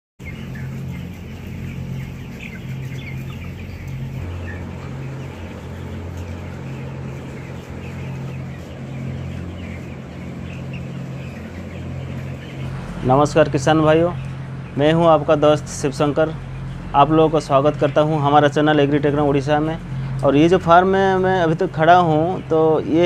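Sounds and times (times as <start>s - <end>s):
chickens clucking and chirping: 0.2s - 23.0s
steady low hum: 0.2s - 23.0s.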